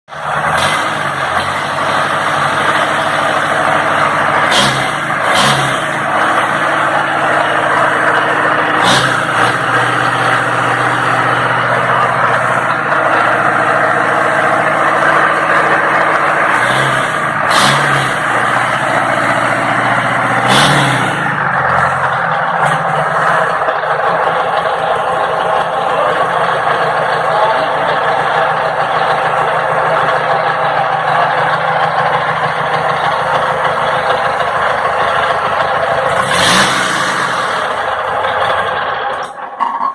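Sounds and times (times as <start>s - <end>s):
diesel engine idling: 0.1s - 39.9s
engine throttle blips: 0.1s - 39.9s.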